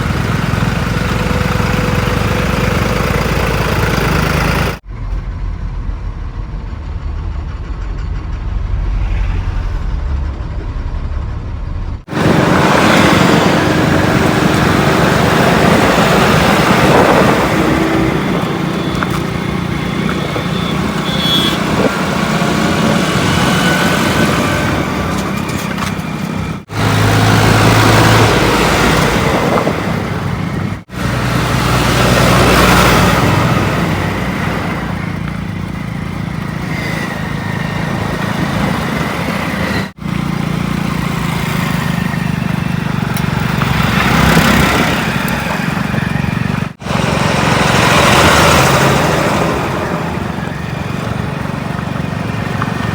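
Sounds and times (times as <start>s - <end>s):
heavy diesel engines running: 0.0s - 52.9s.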